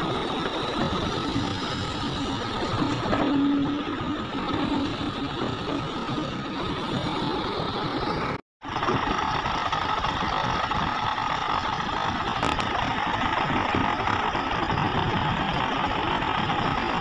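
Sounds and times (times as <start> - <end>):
excavator diesel engines running: 0.0 - 17.0.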